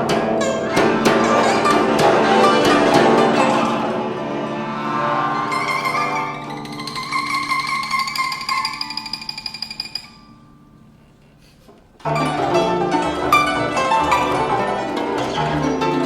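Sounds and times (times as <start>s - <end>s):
plucked zither ensemble playing: 0.0s - 11.2s, 12.0s - 16.0s.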